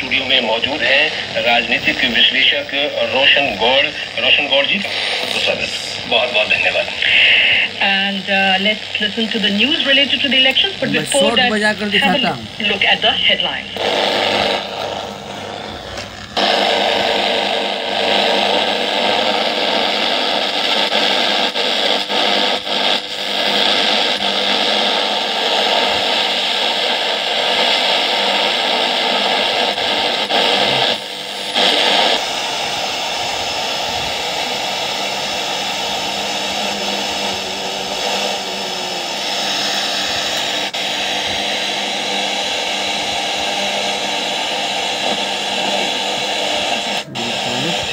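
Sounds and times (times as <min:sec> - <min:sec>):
radio static hiss: 0:00.0 - 0:47.9.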